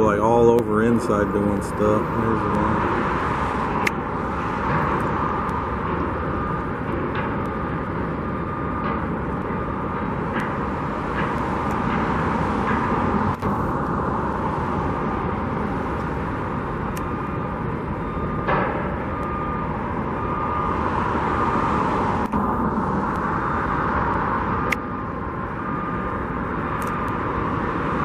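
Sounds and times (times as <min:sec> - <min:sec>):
construction site noise: 0:00.0 - 0:28.0
road traffic: 0:00.0 - 0:28.0.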